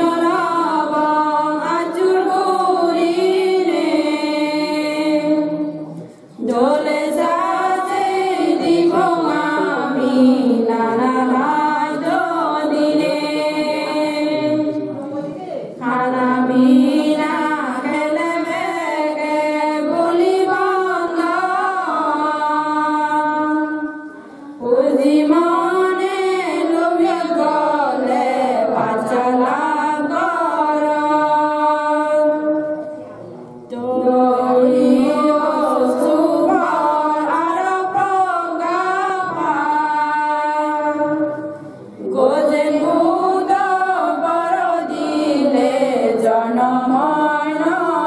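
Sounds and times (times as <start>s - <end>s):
women singing a chant: 0.0s - 33.0s, 33.7s - 48.0s.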